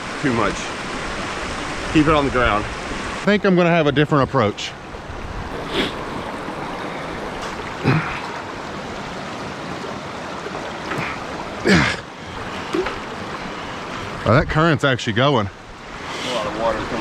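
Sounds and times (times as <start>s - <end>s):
rushing creek water: 0.0s - 17.0s.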